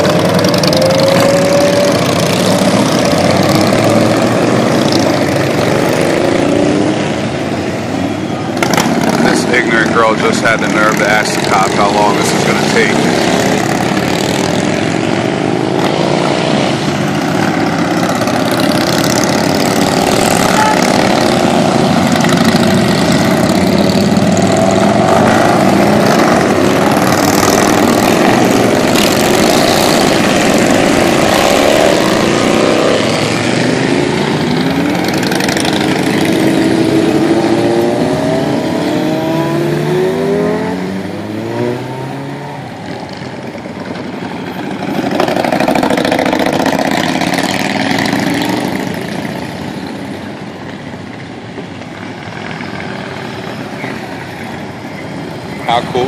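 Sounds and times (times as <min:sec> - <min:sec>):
motorcycles riding past: 0:00.0 - 0:56.0.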